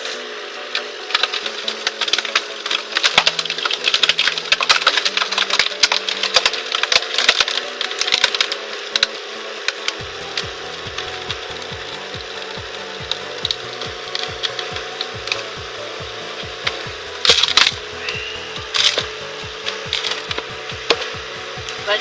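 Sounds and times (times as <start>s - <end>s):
log splitter humming: 0.0s - 22.0s
wood cracking and splintering: 0.0s - 22.0s.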